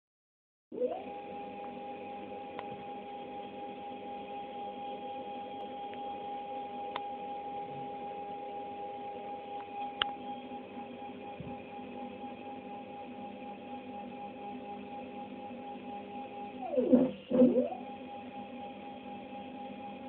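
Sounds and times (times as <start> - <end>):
stepper motor whine: 0.8 - 20.0.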